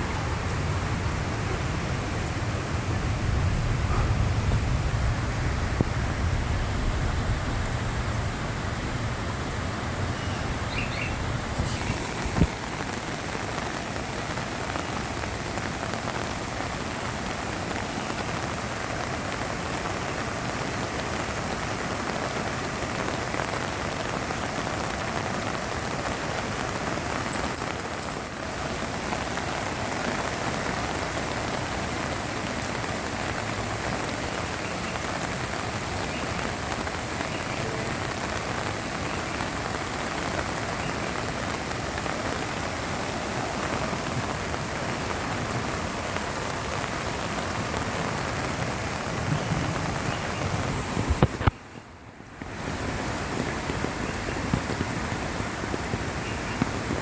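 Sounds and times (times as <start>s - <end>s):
creek rushing in flood: 0.0s - 57.0s.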